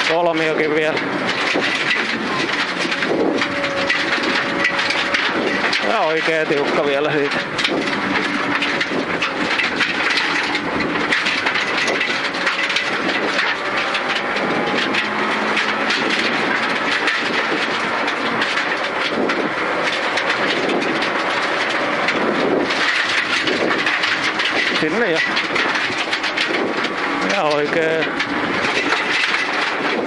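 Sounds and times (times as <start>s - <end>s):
gravel clattering against car underside: 0.0s - 30.0s.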